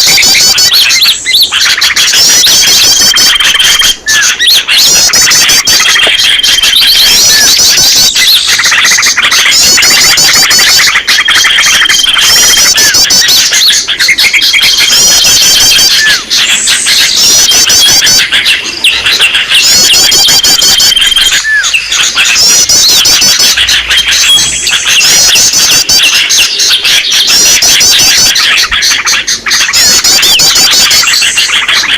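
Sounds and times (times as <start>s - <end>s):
songbirds chirping and trilling: 0.0s - 31.9s.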